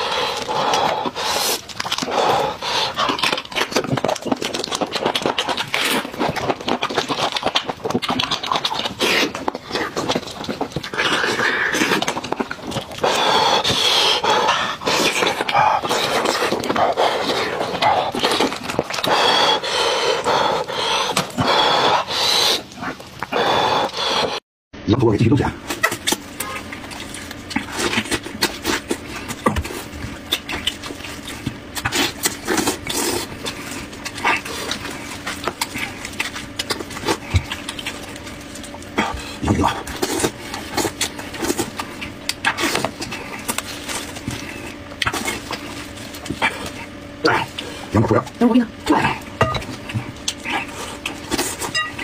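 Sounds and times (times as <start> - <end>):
man chewing and sucking meat: 0.0 - 24.4, 25.6 - 52.0.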